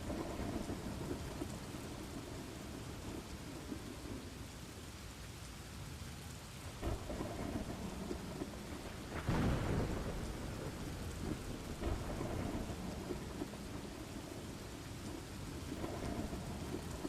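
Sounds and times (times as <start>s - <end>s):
thunder rumbling: 0.0s - 4.5s, 6.7s - 17.0s
rain falling: 0.0s - 17.0s.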